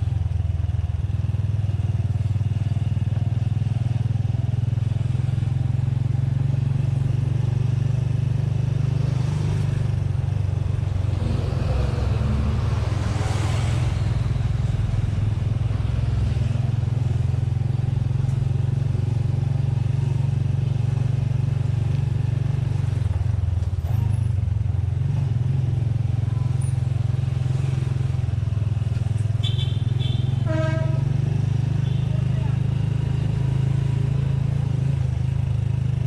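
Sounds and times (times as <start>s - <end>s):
motorcycle engine running steadily: 0.0s - 9.0s, 9.6s - 13.2s, 14.2s - 36.0s.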